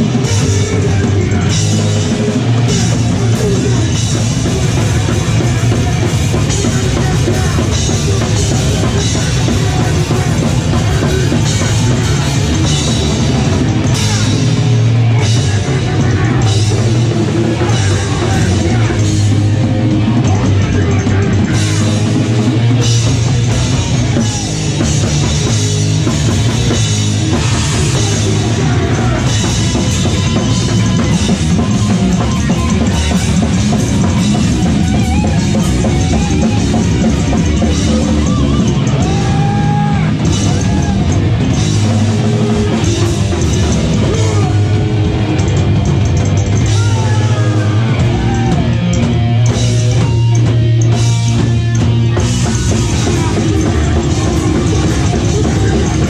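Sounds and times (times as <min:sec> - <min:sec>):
drum kit: 0:00.0 - 0:56.0
rock band playing loud: 0:00.0 - 0:56.0
upright bass: 0:00.0 - 0:56.0.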